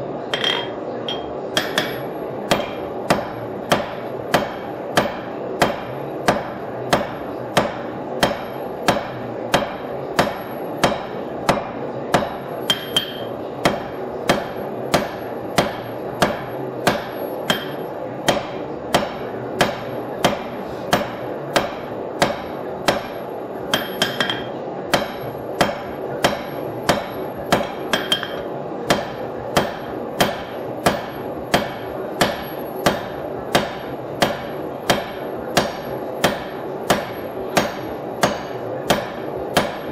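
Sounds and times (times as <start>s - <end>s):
steady hum: 0.0s - 39.9s
hammer striking steel on anvil: 0.3s - 39.9s.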